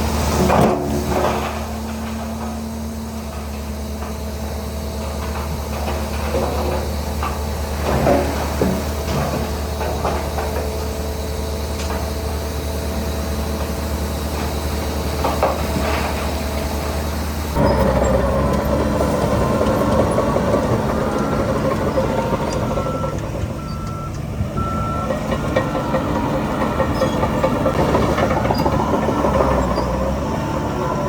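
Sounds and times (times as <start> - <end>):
heavy machinery diesel engines: 0.0 - 31.0
loud engine with rising whine: 0.0 - 31.0.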